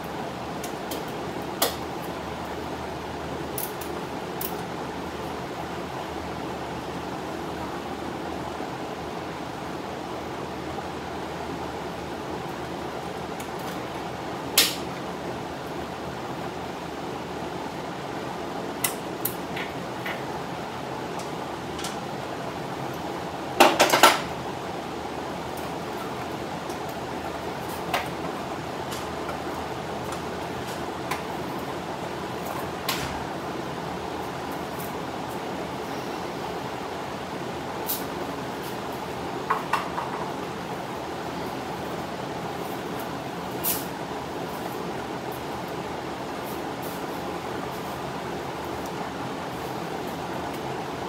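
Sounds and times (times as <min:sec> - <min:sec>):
drum fan running: 0:00.0 - 0:51.0.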